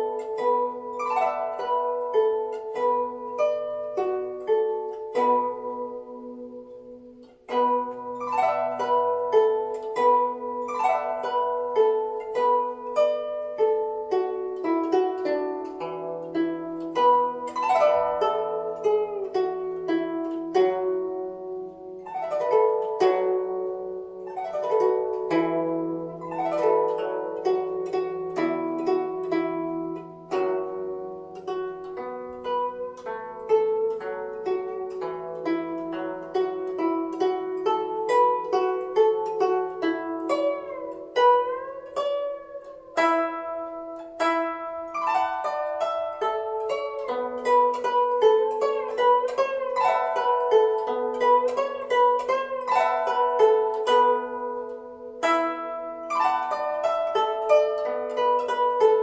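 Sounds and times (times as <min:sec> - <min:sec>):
plucked zither melody: 0:00.0 - 0:59.0.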